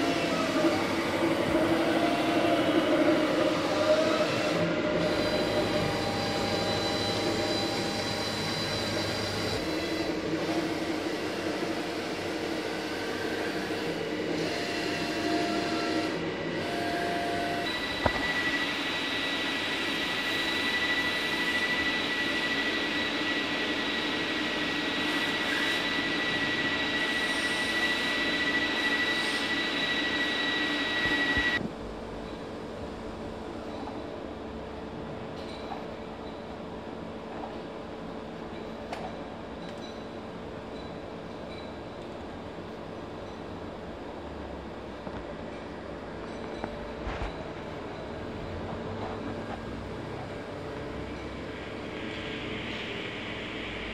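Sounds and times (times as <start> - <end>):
high steady whine: 0.0 - 35.1, 42.7 - 53.9.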